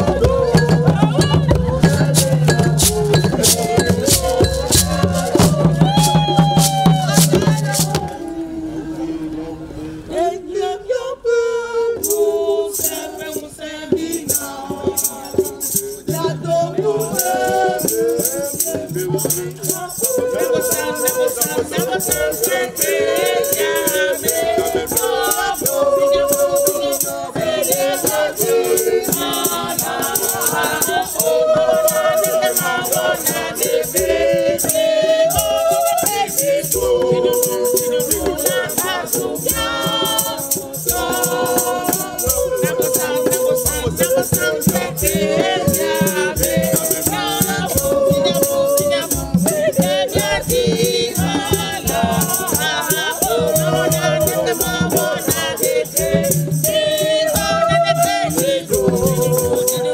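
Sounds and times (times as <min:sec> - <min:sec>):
group singing: 0:00.0 - 0:59.9.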